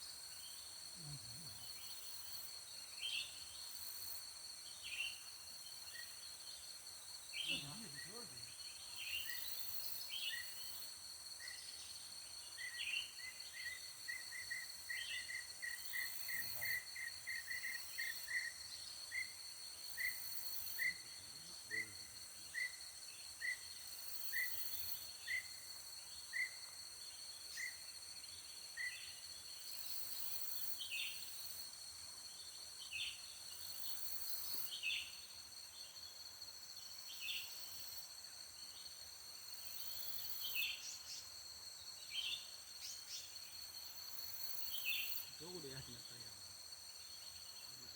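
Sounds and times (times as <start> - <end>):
insect chorus pulsing trill: 0.0 - 47.9.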